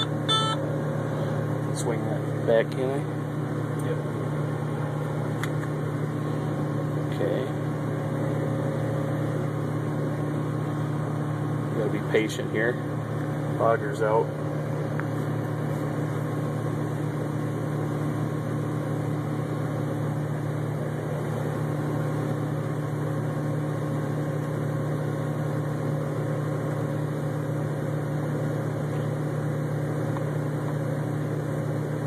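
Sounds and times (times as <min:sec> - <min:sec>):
combine harvester humming: 0:00.0 - 0:32.0.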